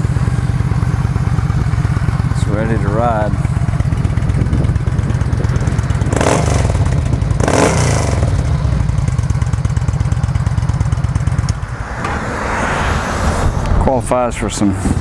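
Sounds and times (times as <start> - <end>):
motorcycle engine idling: 0.0 - 12.0
engine revving: 0.0 - 15.0.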